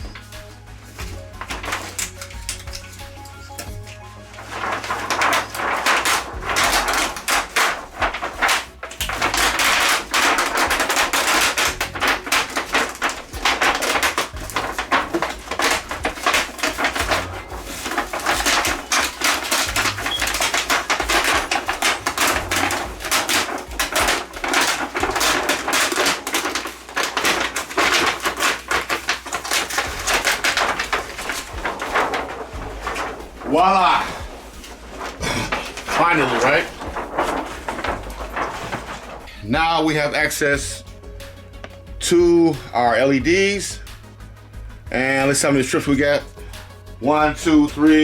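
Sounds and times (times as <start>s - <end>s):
plastic sheet crackling: 0.0s - 40.7s, 45.0s - 46.3s.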